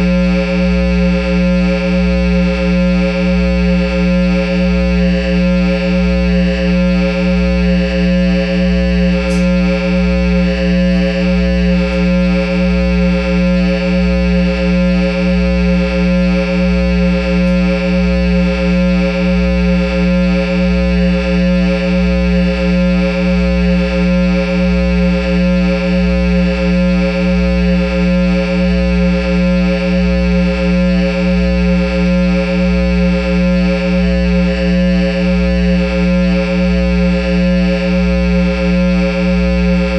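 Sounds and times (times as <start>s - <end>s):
guitar amplifier electrical hum: 0.0s - 39.9s.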